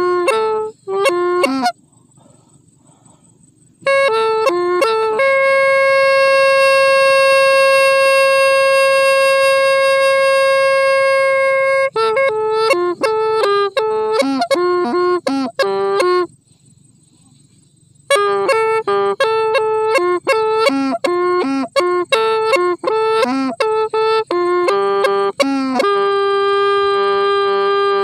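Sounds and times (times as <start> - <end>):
bamboo pipe playing: 0.0 - 1.9, 3.8 - 16.3, 18.1 - 28.0.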